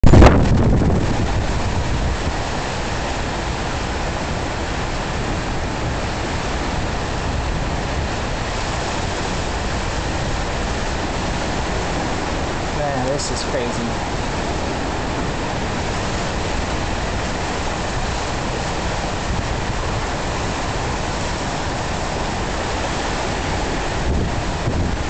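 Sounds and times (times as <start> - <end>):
storm wind buffeting microphone: 0.0 - 25.0
river waves: 0.1 - 25.0.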